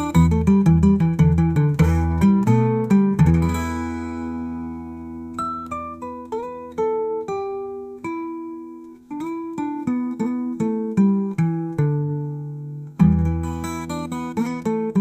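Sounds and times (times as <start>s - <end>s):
blues guitar music: 0.0s - 15.0s.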